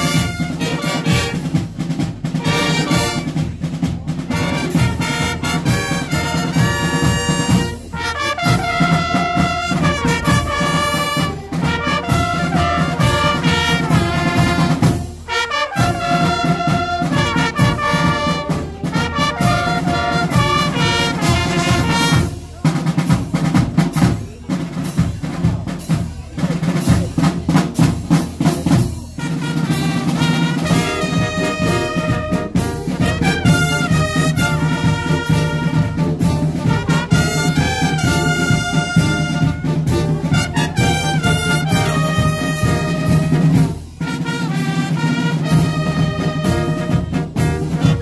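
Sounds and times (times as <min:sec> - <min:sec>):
brass fanfare playing: 0:00.0 - 0:03.6, 0:04.2 - 0:22.6, 0:28.7 - 0:48.0
bass drum and percussion: 0:00.0 - 0:48.0.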